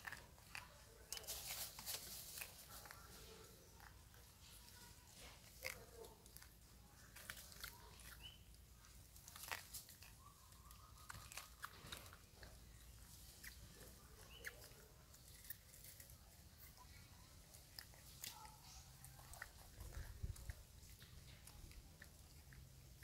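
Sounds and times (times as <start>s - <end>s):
monkeys crunching and chewing: 0.0s - 23.0s.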